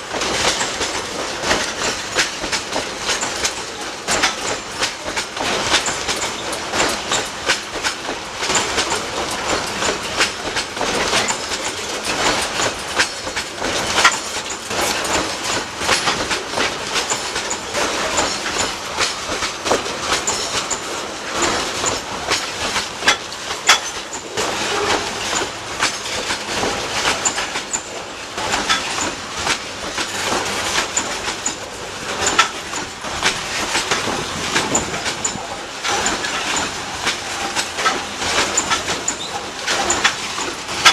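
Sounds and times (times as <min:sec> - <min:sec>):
railway cars rolling on track: 0:00.0 - 0:40.9
wheel clicks over rail joints: 0:00.0 - 0:40.9.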